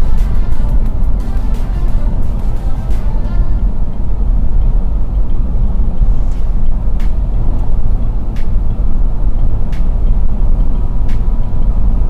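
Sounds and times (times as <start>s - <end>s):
engine and tyre rumble in cab: 0.0s - 12.0s.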